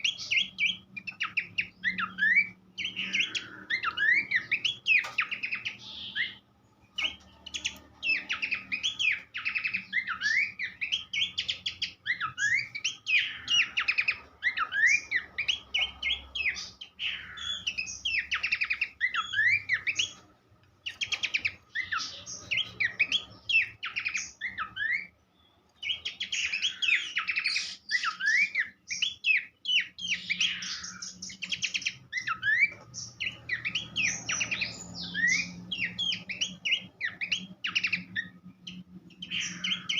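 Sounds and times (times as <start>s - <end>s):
bird singing rapid chatter: 0.0s - 39.9s.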